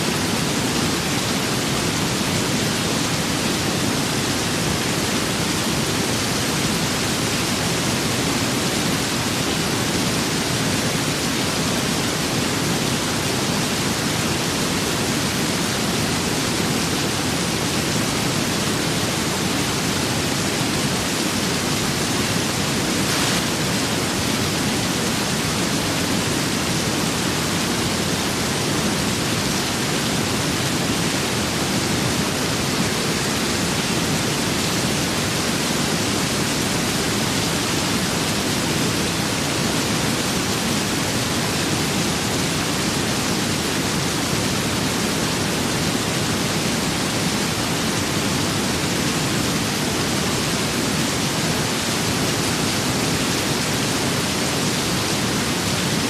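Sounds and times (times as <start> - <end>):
steady rain with wind: 0.0 - 56.0.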